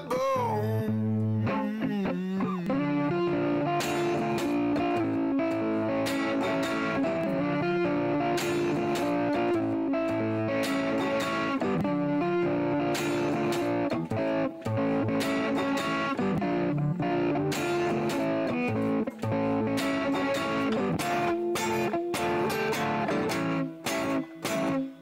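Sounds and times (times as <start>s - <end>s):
guitar-led instrumental music: 0.0s - 25.0s.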